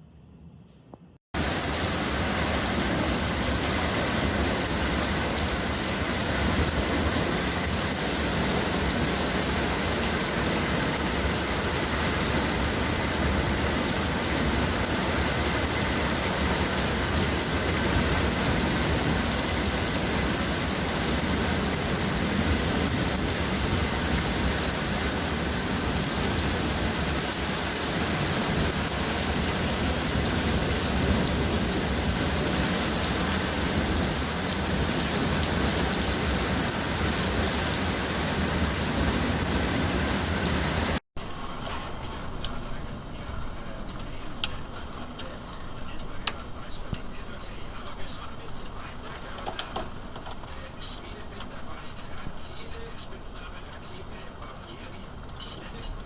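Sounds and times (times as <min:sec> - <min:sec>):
heavy rain pouring: 0:01.4 - 0:56.0.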